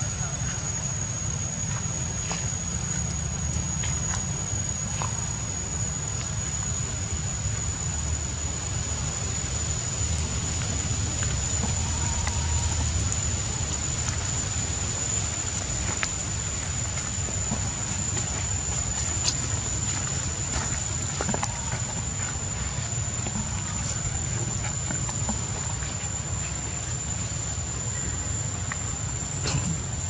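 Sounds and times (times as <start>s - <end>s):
high-pitched insect drone: 0.0s - 30.0s
low rumbling outdoor background: 0.0s - 30.0s.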